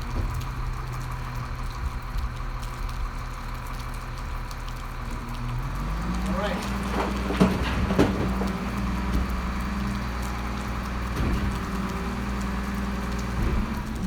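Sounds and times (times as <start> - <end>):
garbage truck diesel engine: 0.0 - 14.0.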